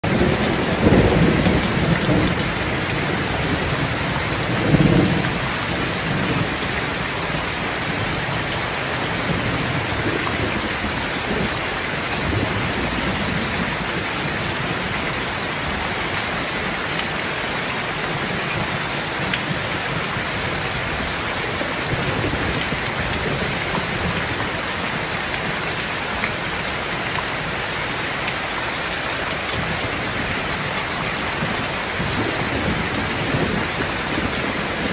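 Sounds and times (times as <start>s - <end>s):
thunder rumbling: 0.0s - 27.6s, 29.4s - 34.9s
heavy rain downpour: 0.0s - 34.9s.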